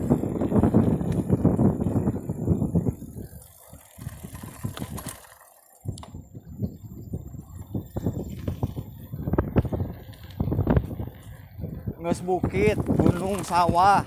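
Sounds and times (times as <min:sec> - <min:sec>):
bicycle rattling on bumpy road: 0:00.0 - 0:14.0.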